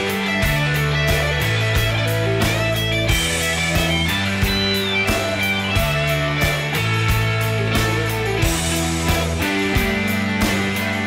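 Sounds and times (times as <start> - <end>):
electric guitar: 0.0 - 11.0
rock music: 0.0 - 11.0
steady drum beat: 0.0 - 11.0.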